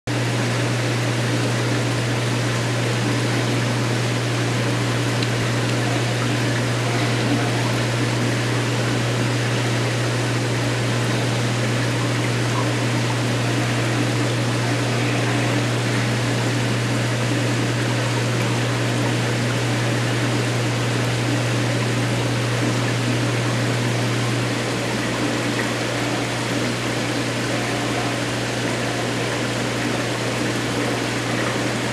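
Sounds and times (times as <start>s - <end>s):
aquarium pump humming: 0.1s - 31.9s.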